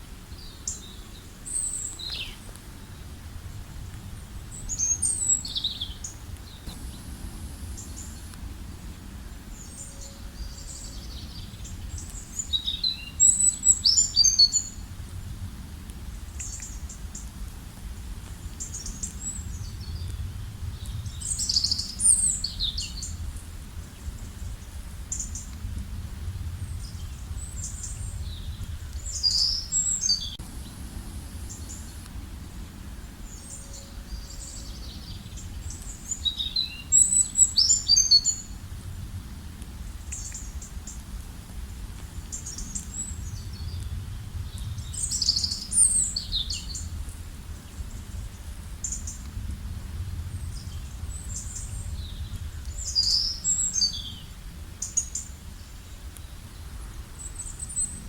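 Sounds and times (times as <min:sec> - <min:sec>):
songbirds singing: 0:00.0 - 0:03.8, 0:04.4 - 0:14.9, 0:16.1 - 0:17.4, 0:18.0 - 0:25.7, 0:26.3 - 0:41.2, 0:42.0 - 0:49.4, 0:50.0 - 0:58.0
steady low rumble: 0:00.0 - 0:37.5, 0:38.3 - 0:58.0.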